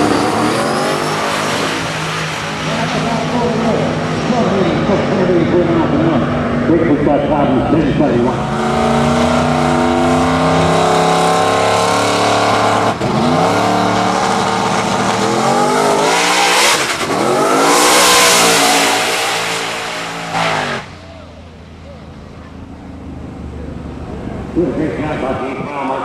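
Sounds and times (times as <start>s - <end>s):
race car engine accelerating hard: 0.0s - 21.4s.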